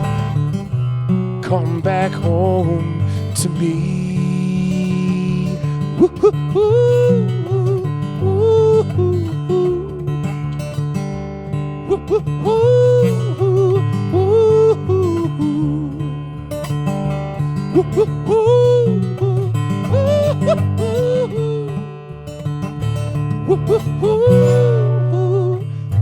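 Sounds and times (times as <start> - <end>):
acoustic guitar strumming: 0.0 - 26.0
wordless vocal melody: 0.0 - 26.0.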